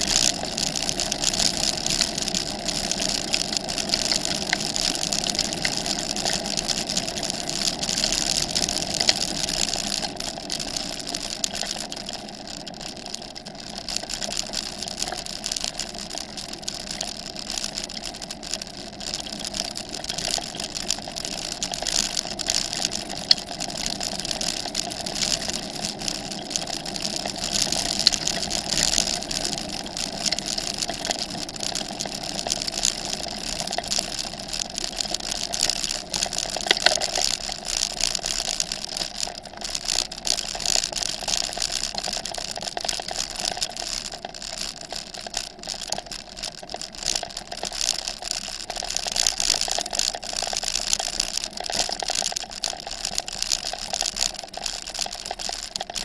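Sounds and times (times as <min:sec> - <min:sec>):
bicycle tyres rolling on gravel: 0:00.0 - 0:56.0
bike rattling over stones: 0:00.0 - 0:56.0.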